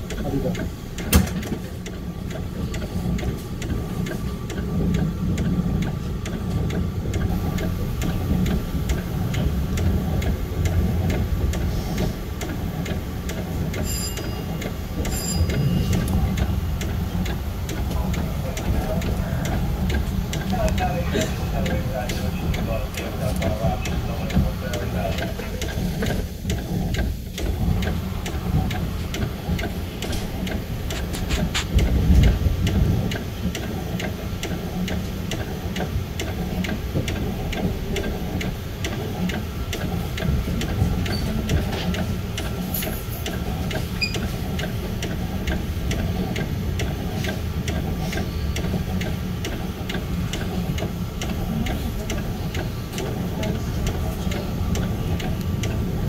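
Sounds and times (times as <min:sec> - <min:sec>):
steady ticking: 0:00.0 - 0:56.0
train wheels and motors rumbling: 0:00.0 - 0:56.0.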